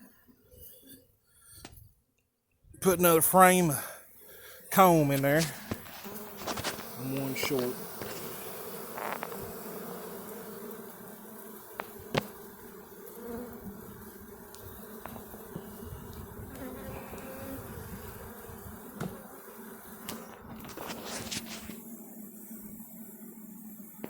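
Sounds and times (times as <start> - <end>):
honeybees buzzing: 2.9 - 24.0.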